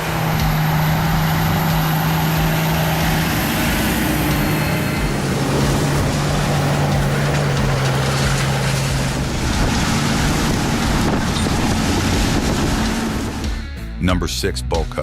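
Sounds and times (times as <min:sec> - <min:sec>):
strong wind rushing: 0:00.0 - 0:13.6
heavy engine humming: 0:00.0 - 0:13.8.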